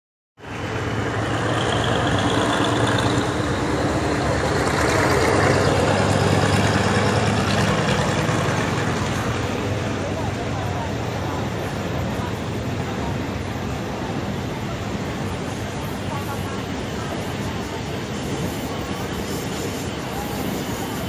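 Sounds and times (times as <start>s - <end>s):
broad even noise: 0.4s - 21.0s
diesel train engine hum: 0.4s - 21.0s.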